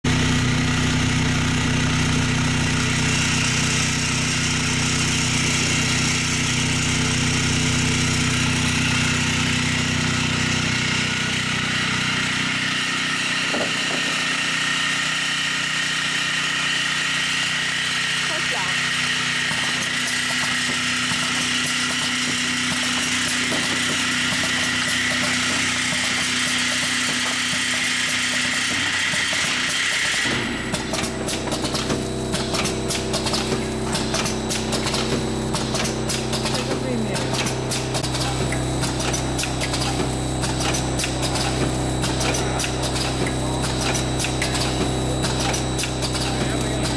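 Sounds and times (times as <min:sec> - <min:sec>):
packing machine humming: 0:00.0 - 0:46.9
high machine whine: 0:00.1 - 0:46.9.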